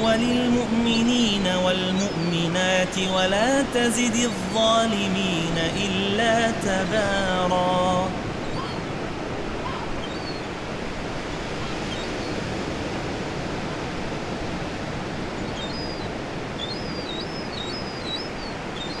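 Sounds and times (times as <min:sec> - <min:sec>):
ocean waves breaking: 0:00.0 - 0:19.0
seagulls calling: 0:00.0 - 0:19.0.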